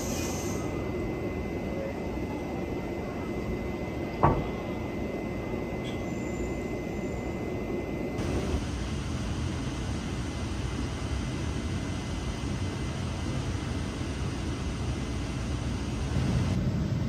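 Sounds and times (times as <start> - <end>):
train wheels rumbling on rail: 0.0 - 6.6, 8.2 - 17.0.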